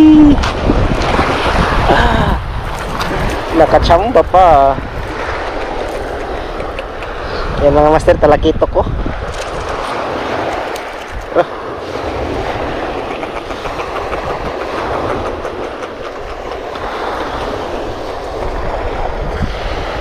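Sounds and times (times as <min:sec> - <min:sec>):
wind rumbling on microphone: 0:00.0 - 0:20.0
surf washing on pebble beach: 0:00.1 - 0:20.0.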